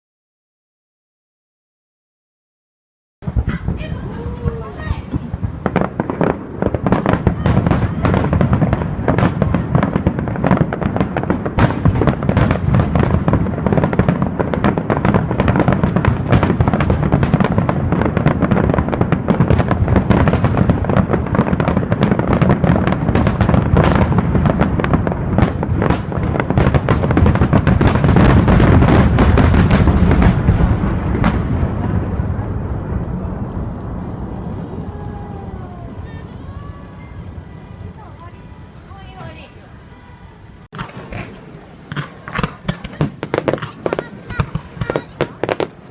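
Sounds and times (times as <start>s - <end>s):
fireworks booming and crackling: 3.2s - 45.9s.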